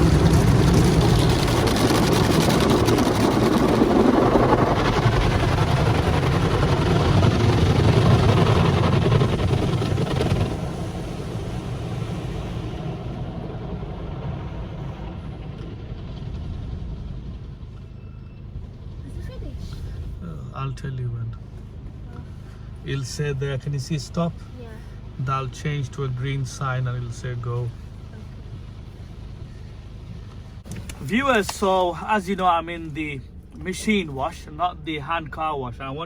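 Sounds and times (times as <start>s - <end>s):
car wash rushing noise: 0.0s - 17.8s, 18.6s - 36.0s
low hum: 0.0s - 36.0s.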